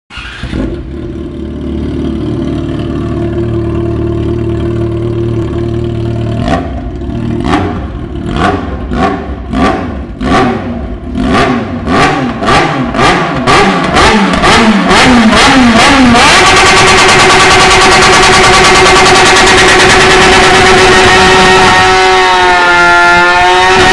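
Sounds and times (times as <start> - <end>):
motorcycle engine revving: 0.1 - 23.9.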